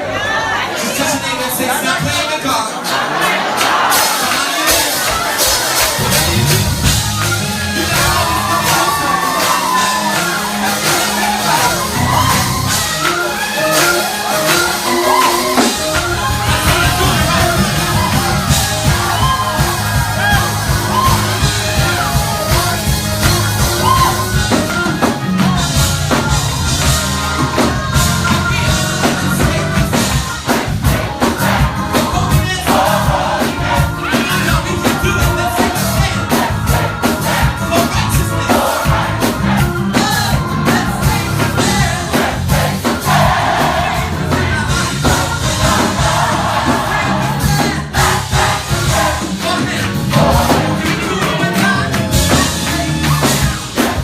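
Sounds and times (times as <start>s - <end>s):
crowd shouting: 0.0s - 54.0s
gospel choir singing: 0.0s - 54.0s
drums and cymbals: 3.4s - 54.0s
bass line: 6.0s - 54.0s.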